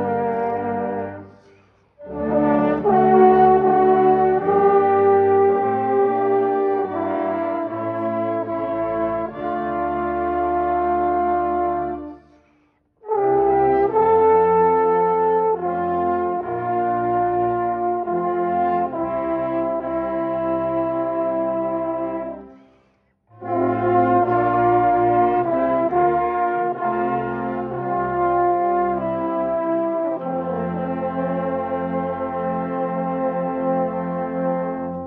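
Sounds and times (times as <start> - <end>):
wind band playing chords: 0.0 - 12.3, 13.0 - 22.5, 23.3 - 35.0.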